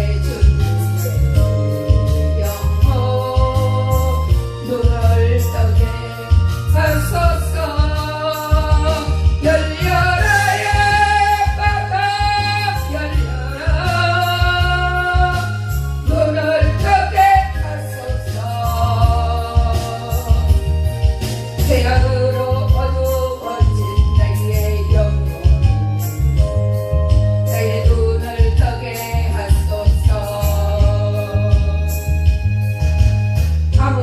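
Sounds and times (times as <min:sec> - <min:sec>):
person singing gospel song: 0:00.0 - 0:32.3, 0:33.7 - 0:34.0
accompaniment with heavy bass and beat: 0:00.0 - 0:34.0.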